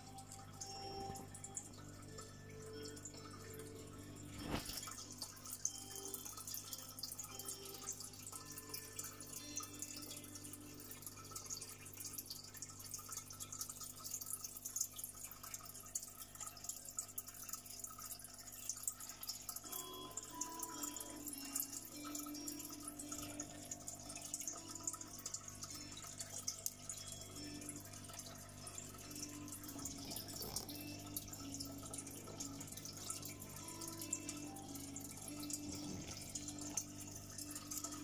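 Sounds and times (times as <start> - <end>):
aquarium water bubbling: 0.0 - 38.0.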